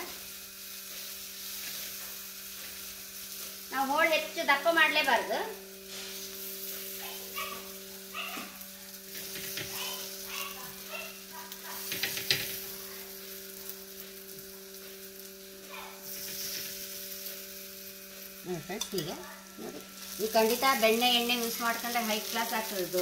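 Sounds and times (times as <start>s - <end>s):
slices sizzling in oil: 0.0s - 23.0s.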